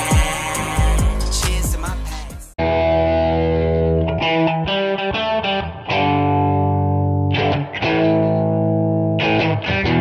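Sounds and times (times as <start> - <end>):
distorted electric guitar chords: 0.0 - 10.0.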